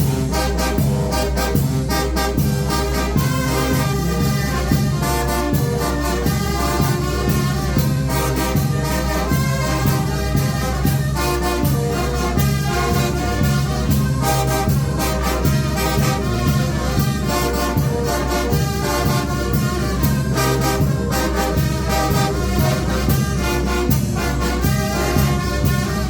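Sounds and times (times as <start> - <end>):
brass band playing: 0.0 - 26.0
percussion steady beat: 0.0 - 26.0.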